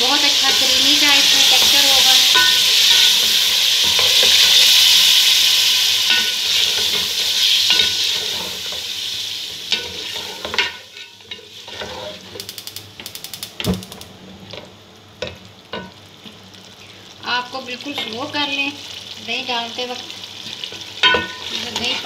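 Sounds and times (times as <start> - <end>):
meat sizzling in pot: 0.0 - 22.0.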